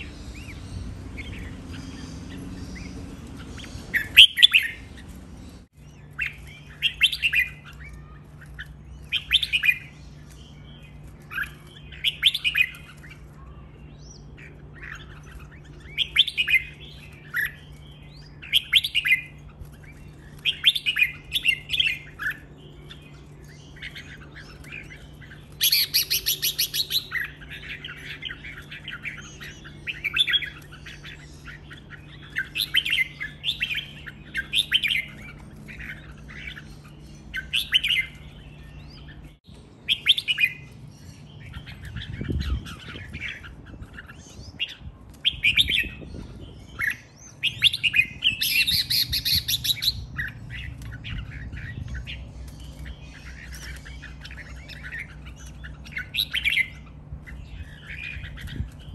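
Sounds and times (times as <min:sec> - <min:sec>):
bird singing repeated phrases: 0:00.0 - 0:58.9.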